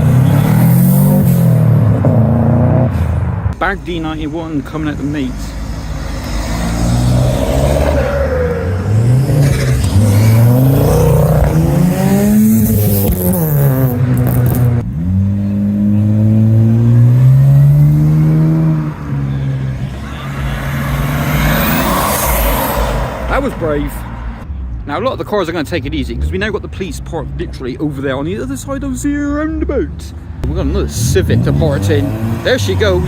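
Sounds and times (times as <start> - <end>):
car engine revving: 0.0 - 24.8, 29.7 - 33.0.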